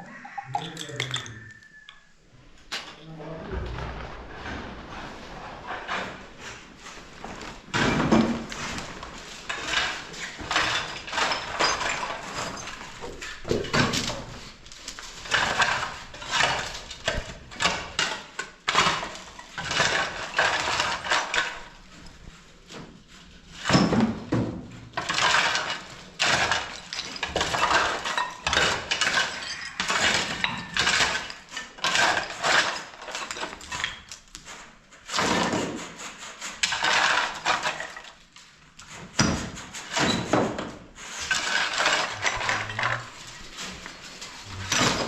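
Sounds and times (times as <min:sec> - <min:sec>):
hard objects clattering and knocking: 0:00.0 - 0:02.0, 0:02.6 - 0:45.0.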